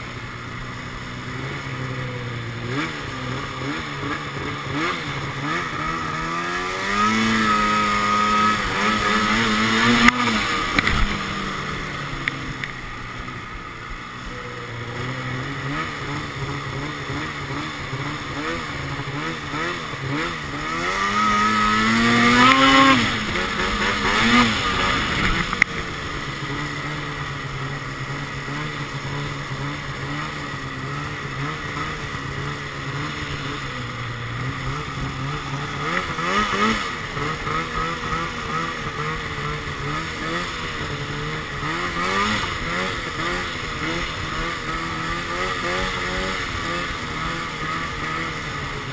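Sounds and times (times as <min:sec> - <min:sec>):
snowmobile engine revving: 0:00.0 - 0:48.9.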